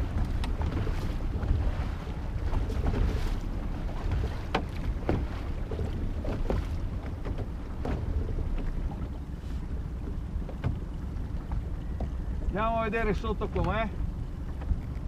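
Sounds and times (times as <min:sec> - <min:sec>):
boat engine low rumble: 0:00.0 - 0:15.0
water moving around hull: 0:00.0 - 0:15.0
wind buffeting microphone: 0:00.0 - 0:15.0.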